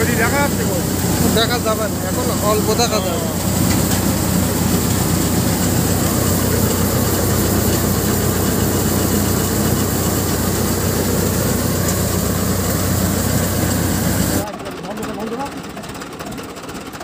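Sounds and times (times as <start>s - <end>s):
low engine hum: 0.0s - 14.5s
thresher machine drone: 0.0s - 16.8s.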